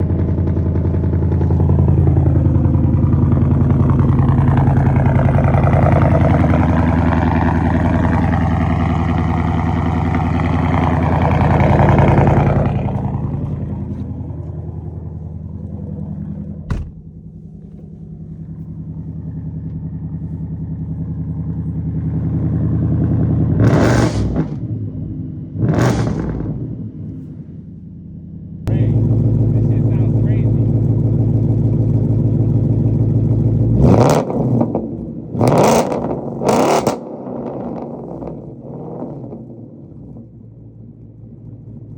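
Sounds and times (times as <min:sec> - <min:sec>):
car engine running loud: 0:00.0 - 0:41.9.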